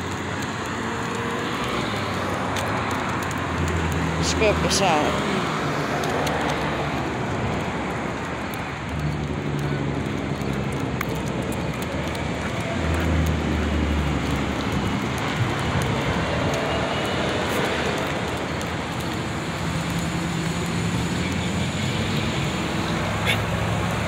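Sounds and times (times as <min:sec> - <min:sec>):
road traffic noise: 0:00.0 - 0:24.0.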